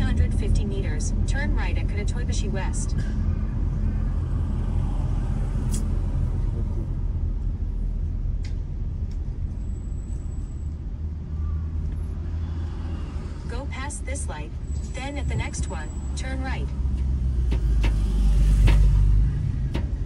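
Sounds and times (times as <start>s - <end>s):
car engine and tyres droning: 0.0s - 20.0s.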